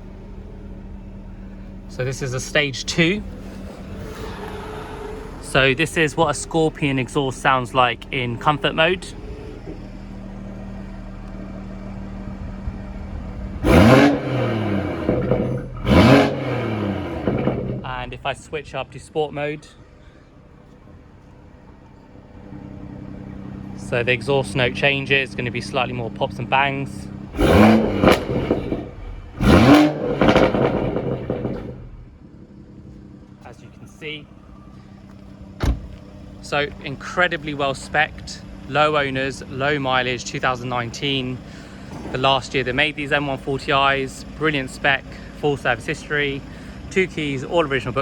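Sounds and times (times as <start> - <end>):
car engine idling and revving: 0.0 - 48.0
exhaust popping: 0.0 - 48.0.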